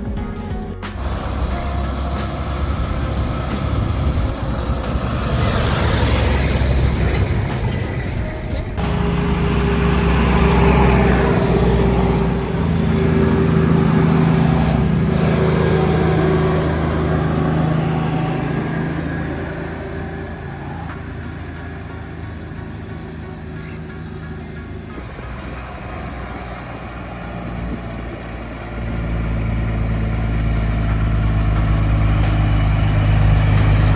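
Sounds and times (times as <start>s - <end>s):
heavy trucks on road: 0.0s - 33.9s
steady pitched engine sound: 0.0s - 33.9s.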